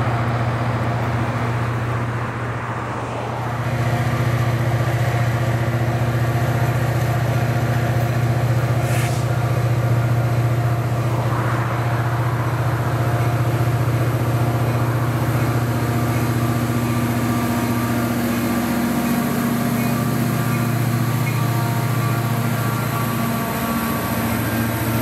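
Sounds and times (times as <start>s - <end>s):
diesel locomotive engine droning: 0.0s - 25.0s.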